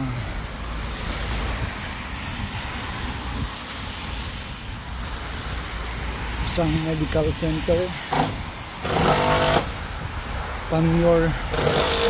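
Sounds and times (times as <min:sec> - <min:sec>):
tyres hissing on wet asphalt: 0:00.0 - 0:12.0.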